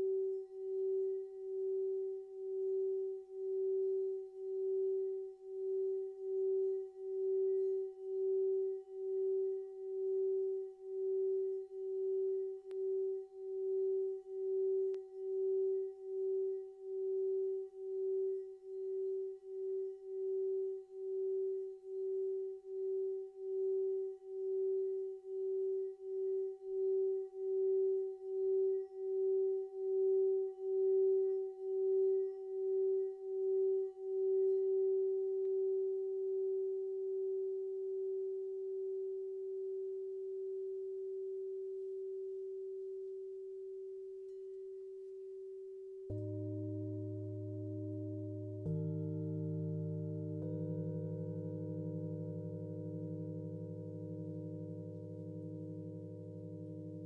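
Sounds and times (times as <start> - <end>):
singing bowl tone: 0.0 - 57.0.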